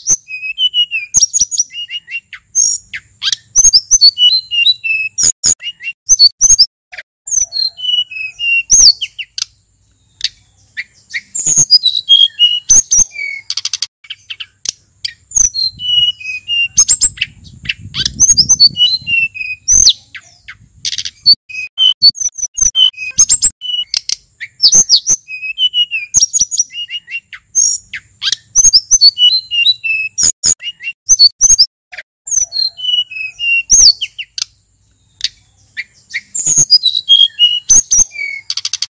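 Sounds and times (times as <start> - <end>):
songbird whistled singing: 0.0 - 6.7, 7.3 - 38.9
sharp bird chips: 0.0 - 38.9.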